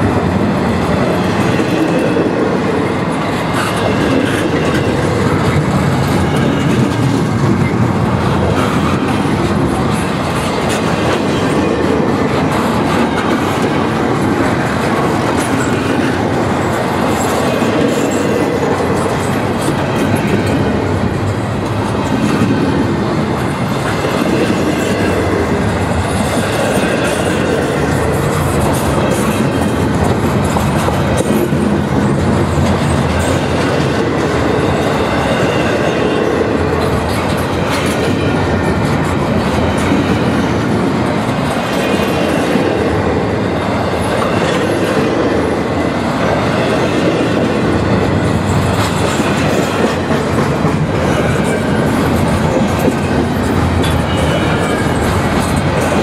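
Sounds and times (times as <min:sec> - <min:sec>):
steel wheels rumbling on rails: 0:00.0 - 0:56.0
wheels clacking over rail joints: 0:00.0 - 0:56.0.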